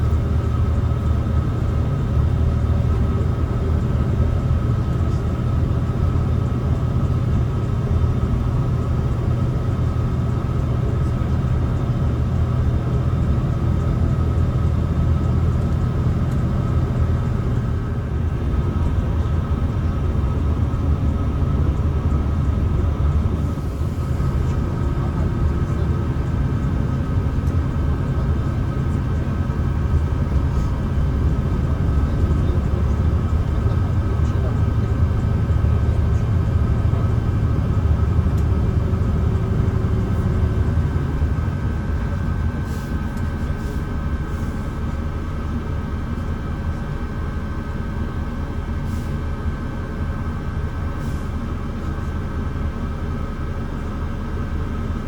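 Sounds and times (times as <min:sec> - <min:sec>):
bus diesel engine droning: 0:00.0 - 0:55.0.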